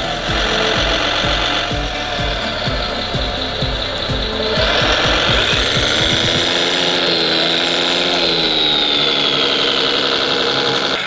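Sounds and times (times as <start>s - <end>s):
high whine falling in pitch: 0.0s - 11.0s
model truck electric motor whine: 0.0s - 11.0s.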